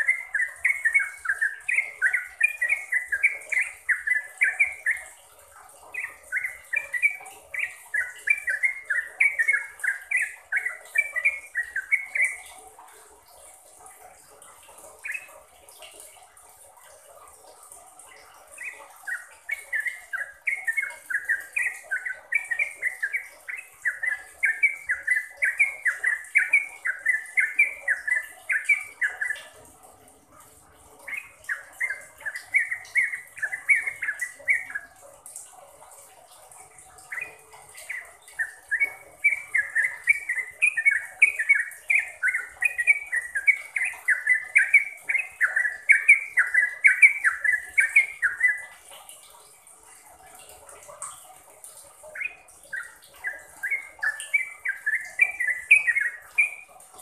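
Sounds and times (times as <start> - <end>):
bird singing bubbly phrases: 0.0 - 57.0.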